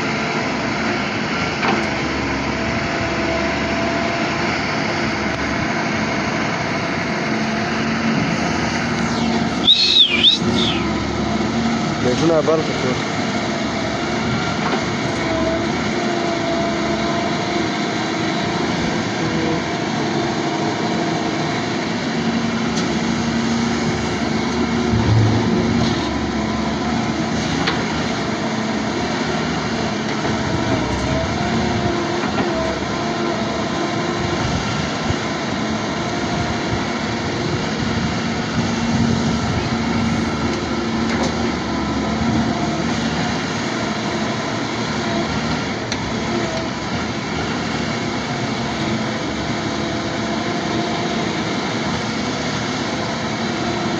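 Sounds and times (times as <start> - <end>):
engine hum: 0.0 - 53.9.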